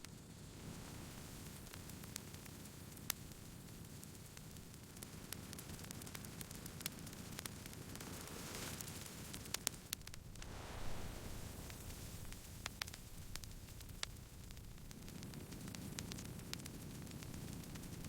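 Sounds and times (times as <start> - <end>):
campfire crackling: 0.8 - 18.0.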